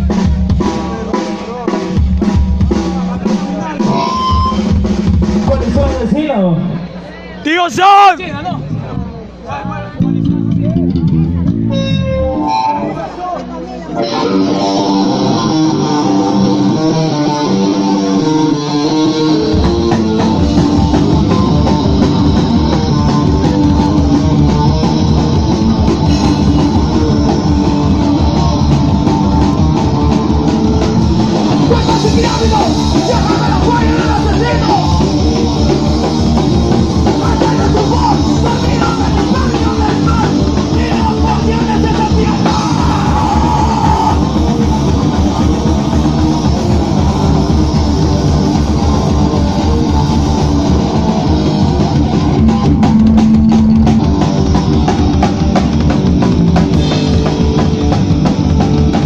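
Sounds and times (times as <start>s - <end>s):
electric guitar: 0.0s - 5.7s, 8.3s - 59.0s
bass guitar: 0.0s - 59.0s
drums: 0.0s - 59.0s.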